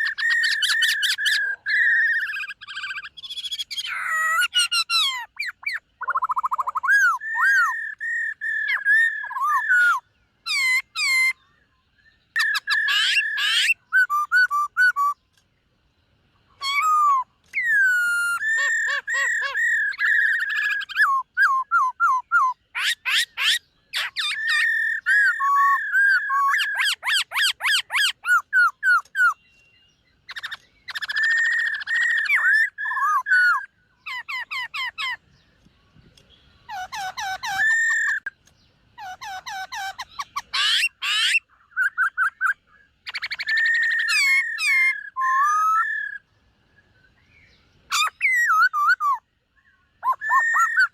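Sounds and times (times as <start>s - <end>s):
bird singing whistled phrases: 0.0s - 15.3s, 16.6s - 35.2s, 36.2s - 38.3s, 39.0s - 50.9s.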